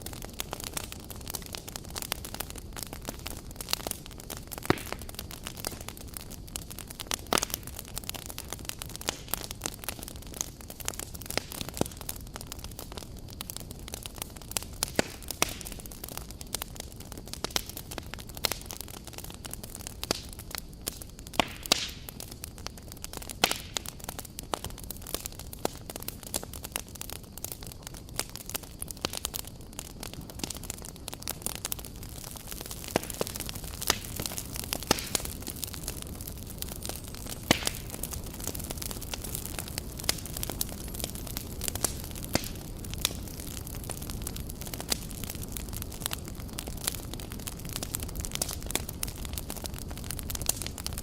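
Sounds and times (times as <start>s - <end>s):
campfire crackling: 0.0s - 51.0s.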